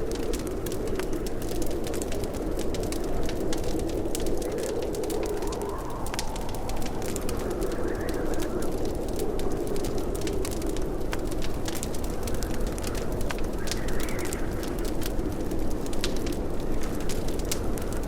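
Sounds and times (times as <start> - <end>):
low rushing of fire: 0.0 - 18.0
wood fire crackling: 0.0 - 18.0.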